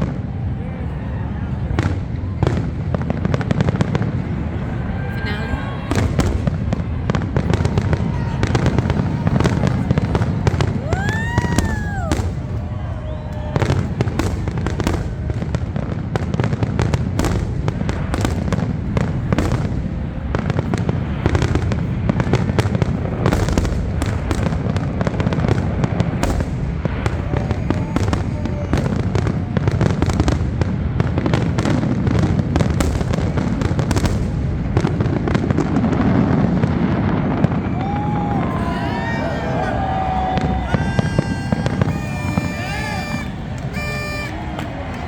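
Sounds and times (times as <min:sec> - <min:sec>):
fireworks crackling: 0:01.6 - 0:45.0.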